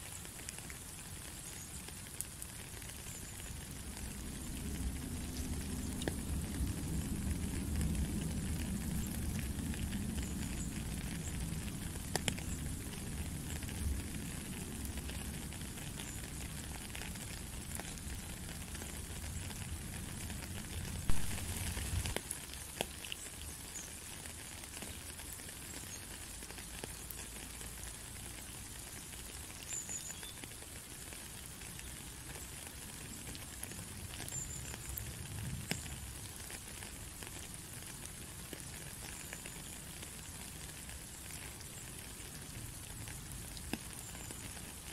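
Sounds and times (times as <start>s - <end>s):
rain pattering on water: 0.0s - 44.9s.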